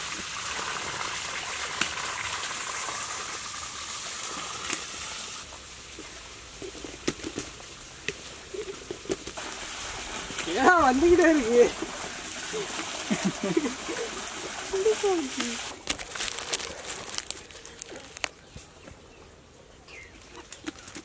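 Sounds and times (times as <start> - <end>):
steady rushing hiss: 0.0 - 18.3.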